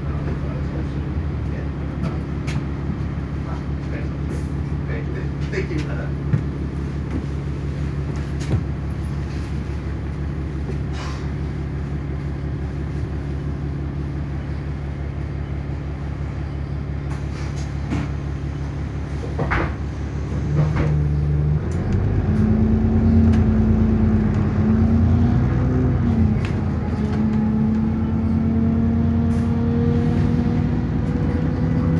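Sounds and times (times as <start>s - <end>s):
bus engine running: 0.0s - 31.9s.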